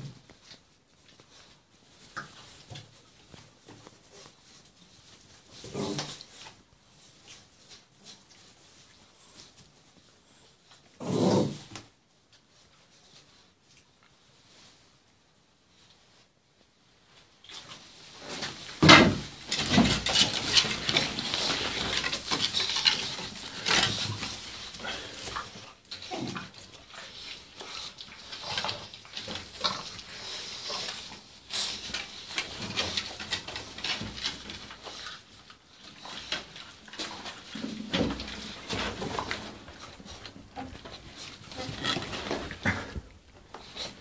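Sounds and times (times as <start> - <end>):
puppies scuffling and grunting: 0.0 - 44.0.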